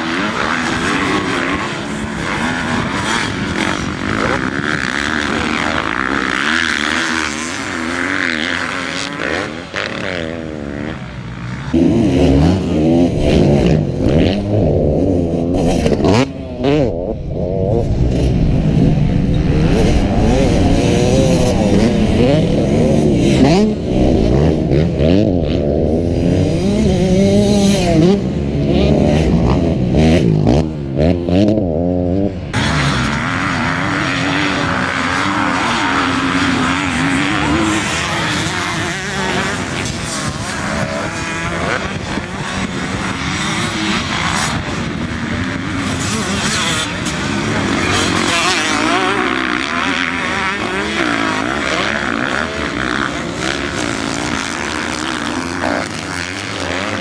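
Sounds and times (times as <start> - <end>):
bikes racing din: 0.0 - 57.0
motocross bike engines revving: 0.0 - 57.0.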